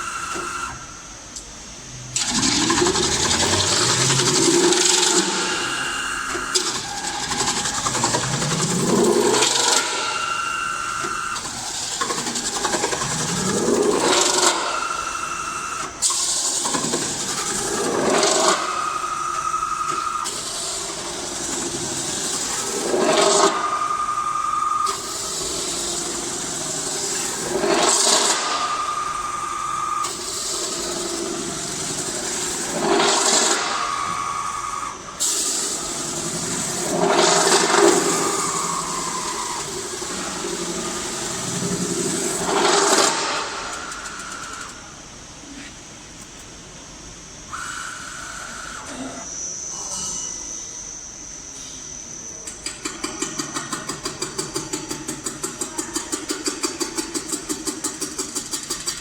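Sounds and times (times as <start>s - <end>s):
metal spinning machine hiss and whine: 0.0s - 59.0s.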